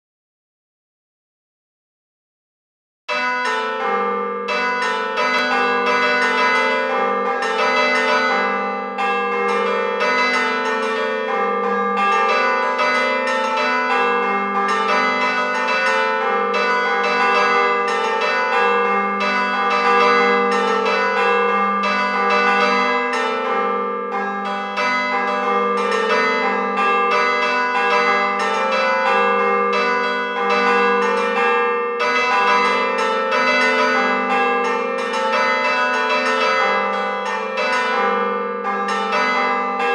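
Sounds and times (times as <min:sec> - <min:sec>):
church bells pealing: 0:03.1 - 0:39.9.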